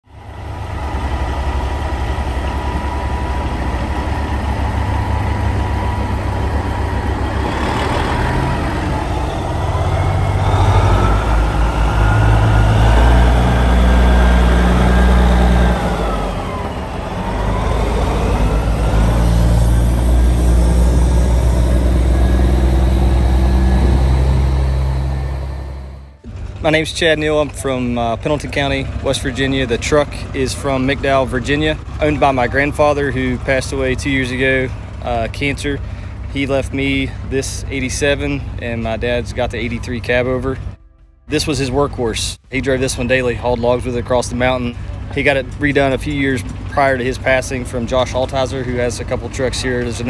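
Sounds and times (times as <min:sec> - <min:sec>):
diesel truck engine rumbling: 0:00.0 - 0:50.0
high engine whine: 0:00.0 - 0:50.0.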